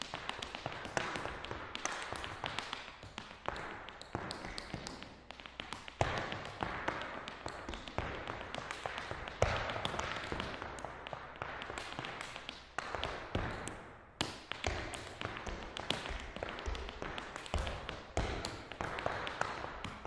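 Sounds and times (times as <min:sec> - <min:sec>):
hard shoes clicking on floor: 0:00.0 - 0:20.0.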